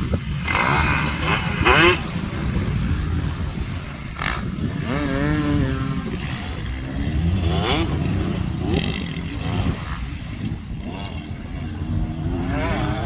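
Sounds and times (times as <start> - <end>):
motocross bikes revving past: 0.0 - 13.0.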